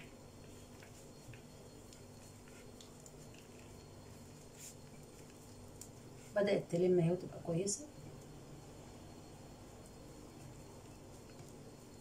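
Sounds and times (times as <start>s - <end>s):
hands kneading sticky dough: 0.0s - 12.0s
low steady hum: 0.0s - 12.0s.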